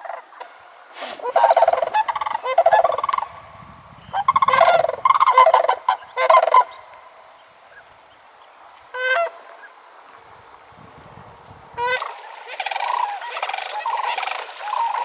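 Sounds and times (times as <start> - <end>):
cranes trilling calls: 0.0 - 10.7, 11.7 - 15.0.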